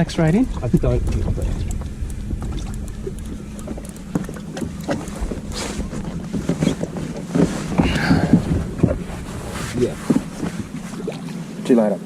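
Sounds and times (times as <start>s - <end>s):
wind buffeting microphone: 0.0s - 11.6s
water splashing against hull: 0.0s - 11.7s
low steady hum: 0.0s - 12.0s.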